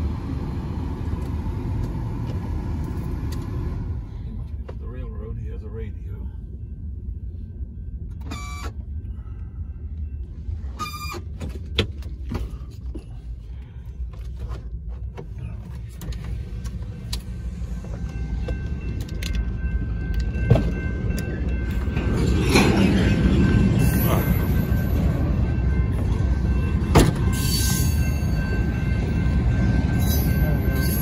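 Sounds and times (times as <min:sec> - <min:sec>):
freight train rumbling: 0:00.0 - 0:31.0.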